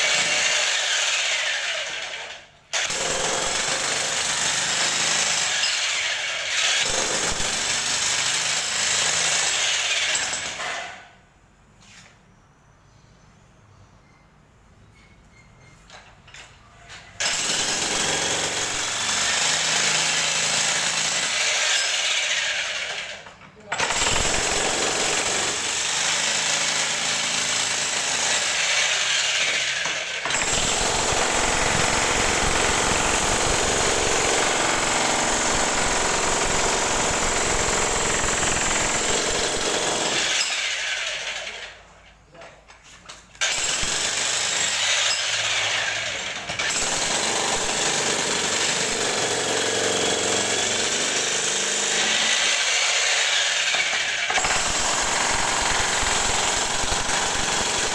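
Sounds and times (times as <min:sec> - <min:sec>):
jackhammer breaking tile: 0:00.0 - 0:11.1, 0:17.2 - 0:41.8, 0:43.4 - 0:57.9.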